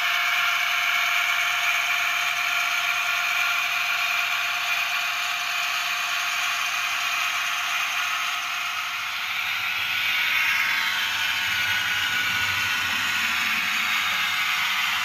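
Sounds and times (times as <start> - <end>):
tinny model diesel engine sound: 0.0 - 15.0.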